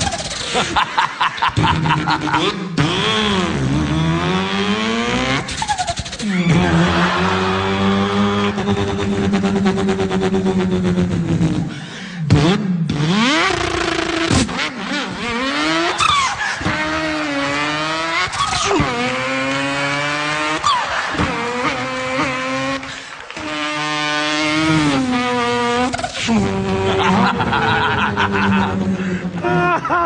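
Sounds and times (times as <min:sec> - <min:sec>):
man imitating racing car engine: 0:00.0 - 0:30.0.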